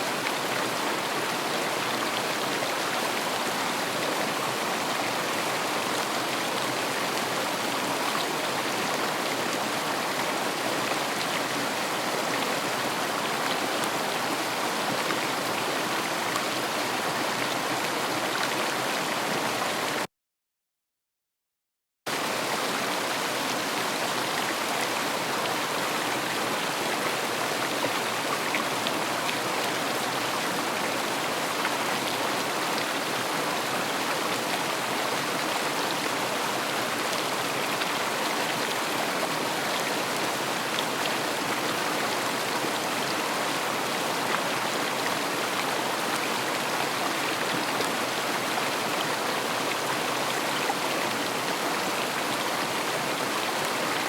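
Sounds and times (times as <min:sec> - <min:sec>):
river water flowing: 0:00.0 - 0:20.0, 0:22.1 - 0:54.0.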